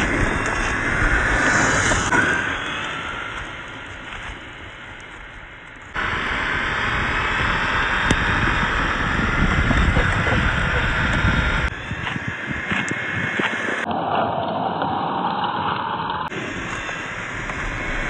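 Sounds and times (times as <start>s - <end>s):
electric motor and gearbox whine: 0.0s - 18.0s.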